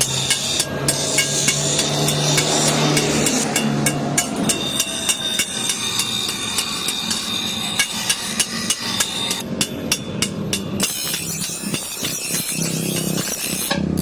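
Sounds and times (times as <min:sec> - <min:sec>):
hammer striking metal on anvil: 0:00.0 - 0:14.0.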